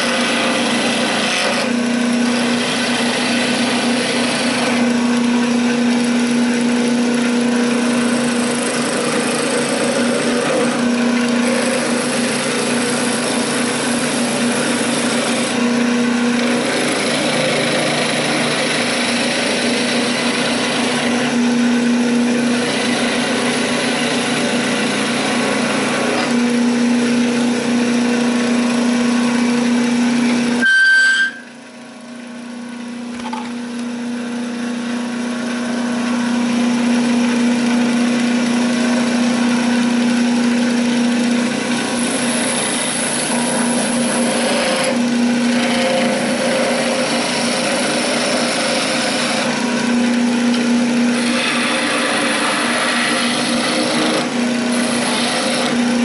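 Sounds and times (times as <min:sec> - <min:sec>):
chisel cutting spinning wood: 0:00.0 - 0:56.0
wood lathe humming: 0:00.0 - 0:56.0.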